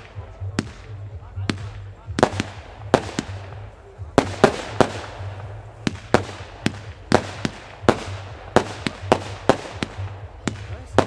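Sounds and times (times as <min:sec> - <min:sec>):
firework cake bangs with echo: 0:00.0 - 0:11.0.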